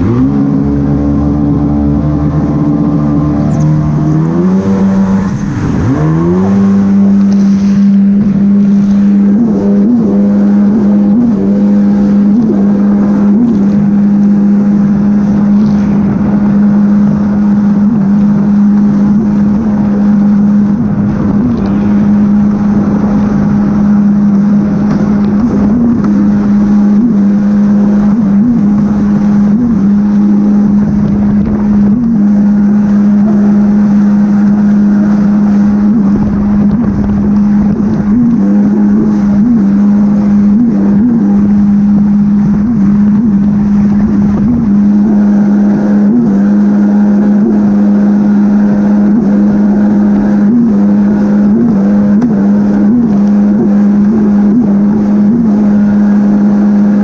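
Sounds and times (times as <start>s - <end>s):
jet ski engine running: 0.0s - 57.0s.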